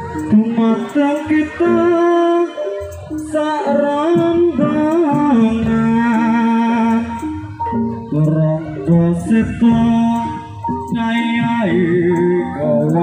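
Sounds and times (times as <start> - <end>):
recurring low beat: 0.0 - 13.0
sliding melody line: 0.0 - 13.0.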